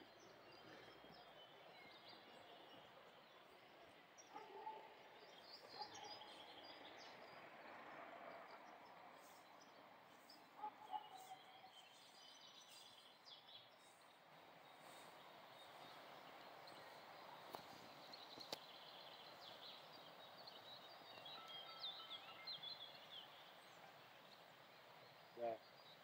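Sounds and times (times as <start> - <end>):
faint birdsong: 0.0 - 26.0.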